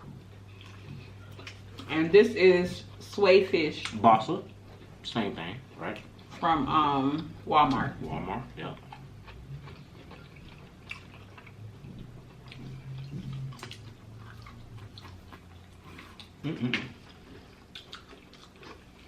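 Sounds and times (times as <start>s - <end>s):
chewing crispy food: 0.0s - 19.0s.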